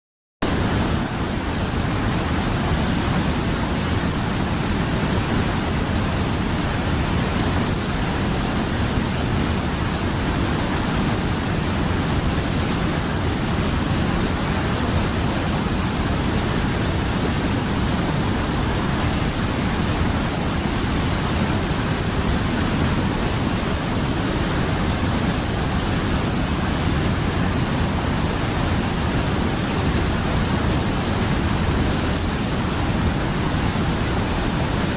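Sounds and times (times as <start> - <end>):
river water rushing: 0.4 - 34.9.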